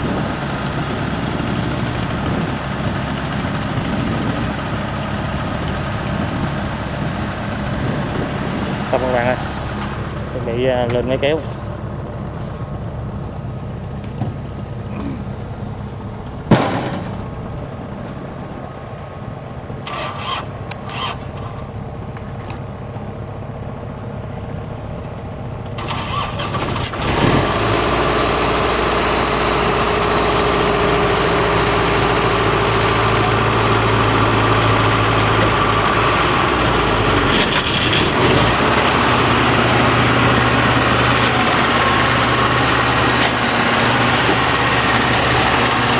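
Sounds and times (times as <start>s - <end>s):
machinery engine running: 0.0s - 45.9s.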